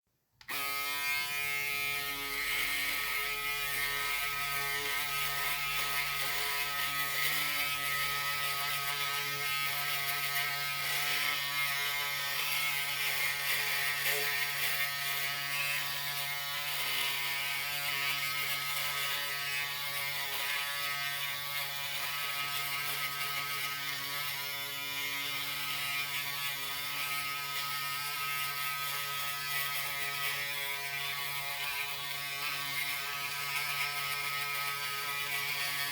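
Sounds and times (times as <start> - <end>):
electric shaver buzzing: 0.4 - 35.9
shaver rasping cutting noise: 0.4 - 35.9.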